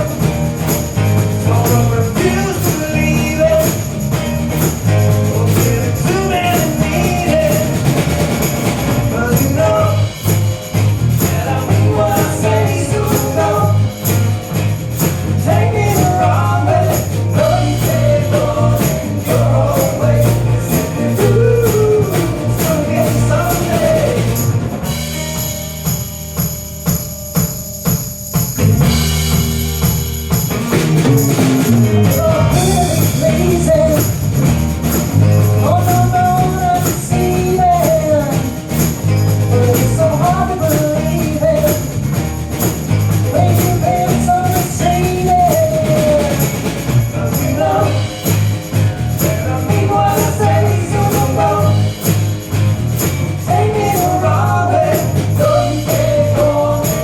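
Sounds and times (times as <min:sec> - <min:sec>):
bass line: 0:00.0 - 0:57.0
rock band playing: 0:00.0 - 0:57.0
tambourine: 0:00.0 - 0:57.0.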